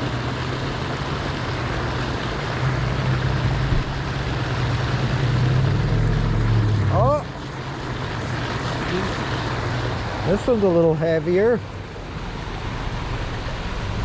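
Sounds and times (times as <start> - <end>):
broad rushing noise: 0.0 - 14.0.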